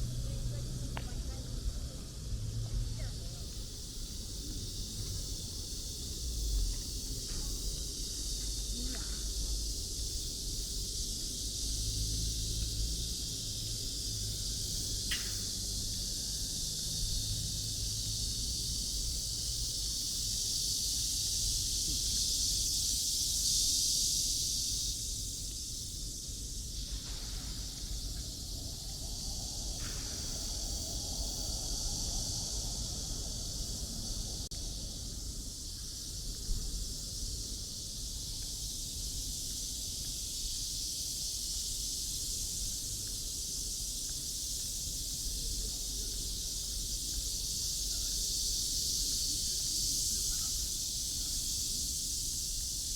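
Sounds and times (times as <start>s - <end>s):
steady high hiss: 0.0s - 52.9s.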